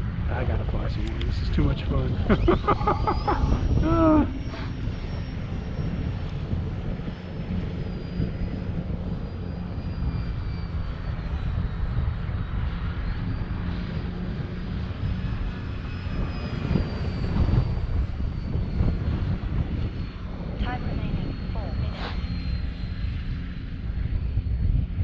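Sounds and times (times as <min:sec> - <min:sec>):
gusty wind rumble on microphone: 0:00.0 - 0:25.0
model plane motor whining: 0:00.4 - 0:24.9.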